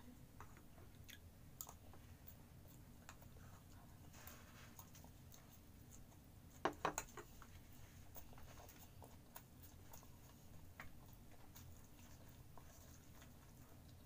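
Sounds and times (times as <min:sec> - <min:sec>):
eating and chewing clicks: 0:00.4 - 0:04.0, 0:04.7 - 0:14.0.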